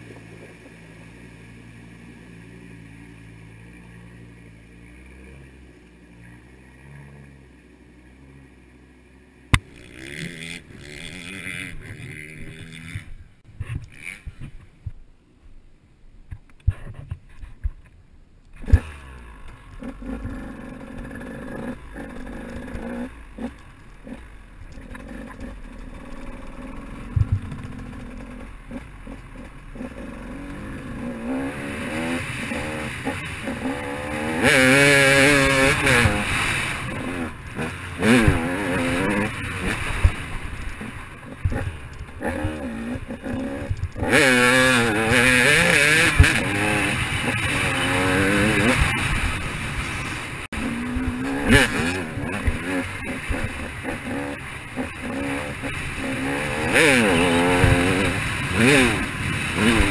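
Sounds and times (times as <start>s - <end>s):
dirt bike engine revving: 0.0s - 14.6s, 18.5s - 59.9s.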